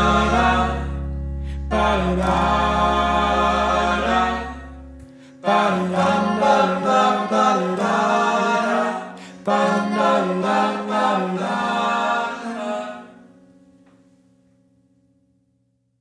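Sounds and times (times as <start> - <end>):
wordless singing: 0.0 - 13.3.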